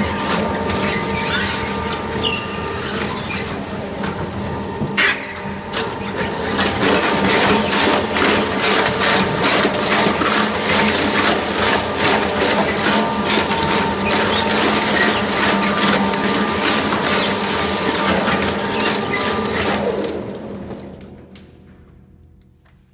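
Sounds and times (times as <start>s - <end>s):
shredder motor humming: 0.0s - 20.9s.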